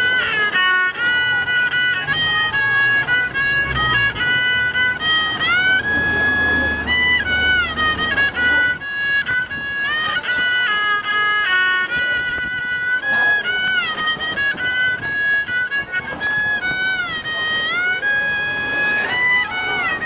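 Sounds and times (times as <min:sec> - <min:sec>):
solo violin melody: 0:00.0 - 0:20.0.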